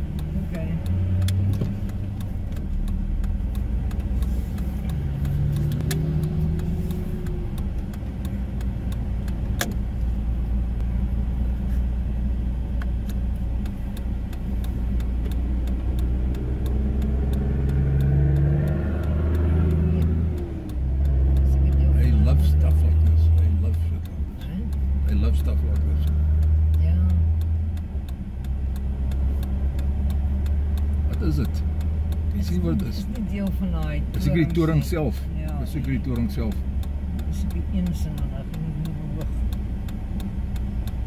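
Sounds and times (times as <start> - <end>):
truck diesel engine droning: 0.0 - 41.0.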